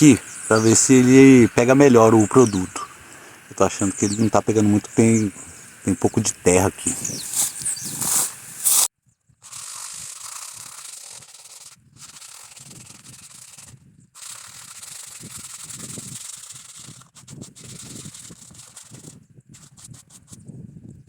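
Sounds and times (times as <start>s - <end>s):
sandpaper scraping wood: 0.0s - 20.4s.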